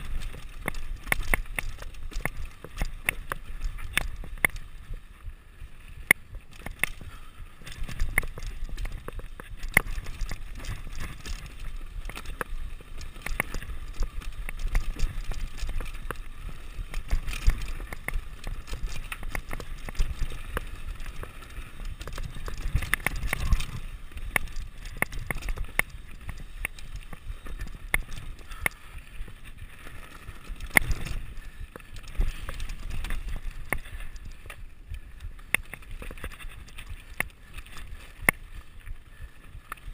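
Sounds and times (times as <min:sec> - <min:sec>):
bike frame rattling: 0:00.0 - 0:05.1, 0:05.9 - 0:39.9.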